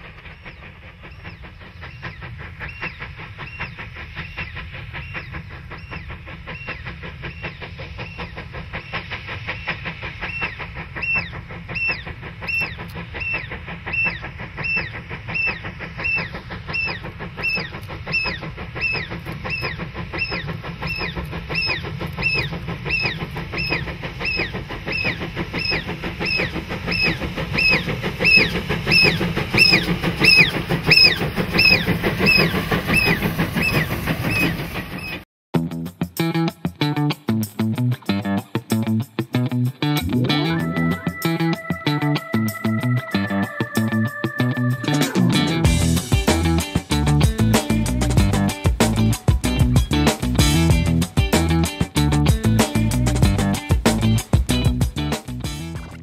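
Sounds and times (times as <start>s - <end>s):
steam hiss: 0.0s - 35.2s, 43.2s - 55.4s
steam locomotive exhaust beats: 0.0s - 56.0s
train running noise: 0.0s - 56.0s.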